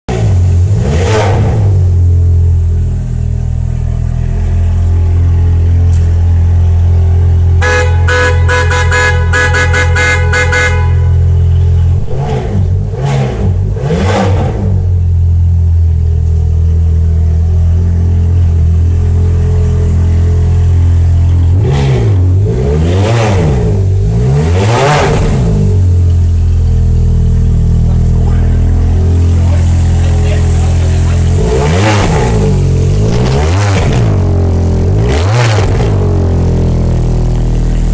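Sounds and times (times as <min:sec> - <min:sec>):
car engine idling and revving: 0:00.1 - 0:37.9.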